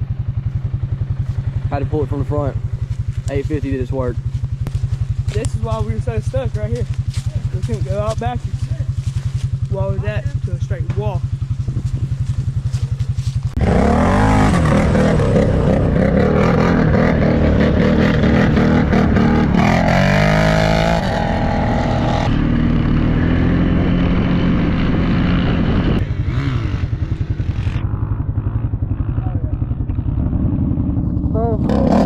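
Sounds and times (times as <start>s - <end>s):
off-road vehicle engine revving: 1.2s - 32.0s.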